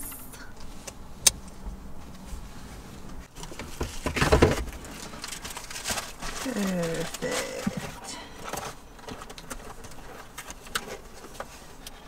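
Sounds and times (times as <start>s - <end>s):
rattling and rustling: 1.4s - 12.0s.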